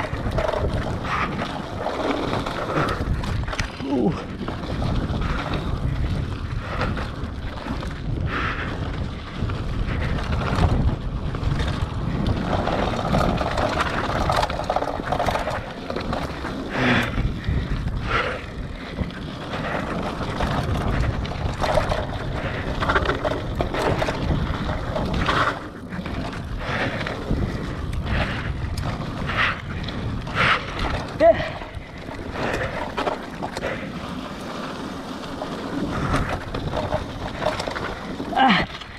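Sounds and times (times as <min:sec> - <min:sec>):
bike knocking and rattling: 0:00.0 - 0:38.9
bike tyre rumble: 0:00.0 - 0:38.9
wind rushing over microphone: 0:00.0 - 0:38.9.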